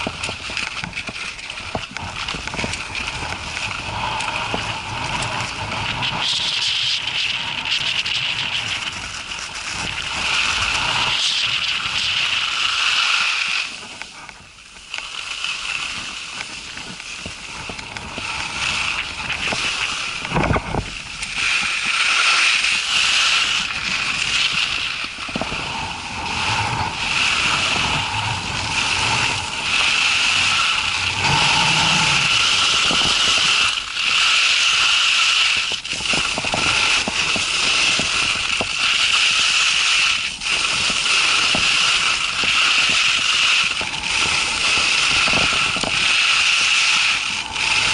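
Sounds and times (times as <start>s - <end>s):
gusty wind on microphone: 0.0s - 47.9s.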